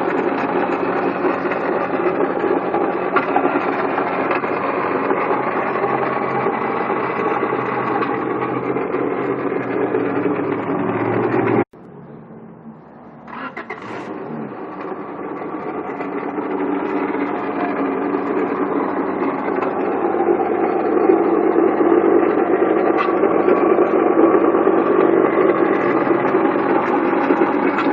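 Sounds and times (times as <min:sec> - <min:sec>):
car engine starting and running: 0:00.0 - 0:27.9
engine rattle and grinding: 0:00.0 - 0:27.9.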